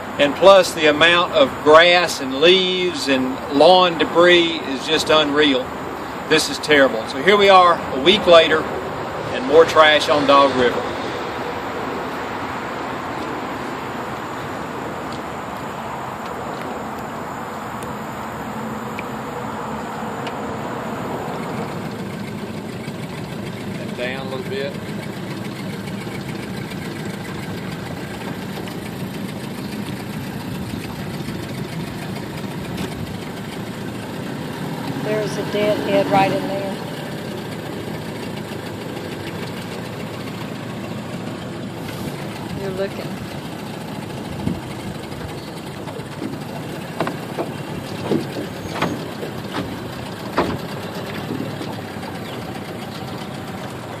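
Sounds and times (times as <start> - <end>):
boat motor running: 0.0 - 54.0
water noise: 0.0 - 54.0.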